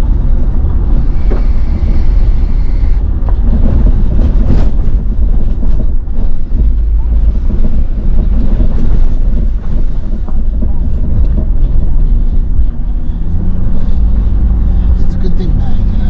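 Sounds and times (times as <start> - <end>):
truck rumble on dirt road: 0.0 - 16.0
wind on microphone: 0.0 - 16.0.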